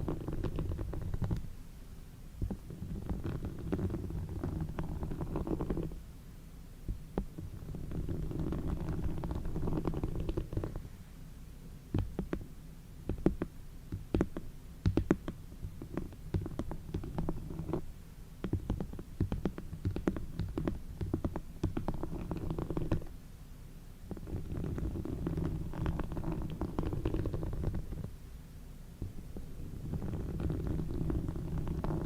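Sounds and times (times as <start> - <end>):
low rumbling hiss: 0.0 - 32.0.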